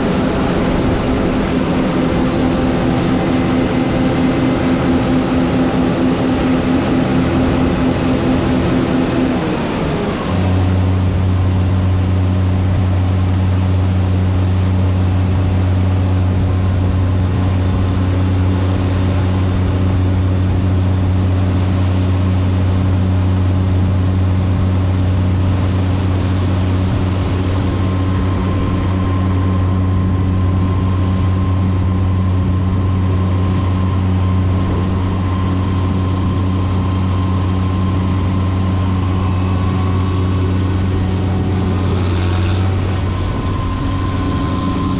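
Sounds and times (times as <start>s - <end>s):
combine harvester drone: 0.0s - 44.9s
faint high whine: 0.0s - 44.9s.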